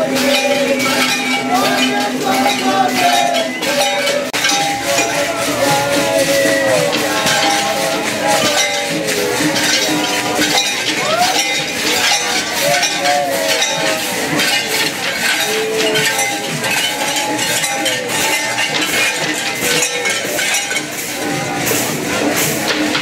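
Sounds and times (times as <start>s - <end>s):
bells clinking and jangling: 0.0s - 23.0s.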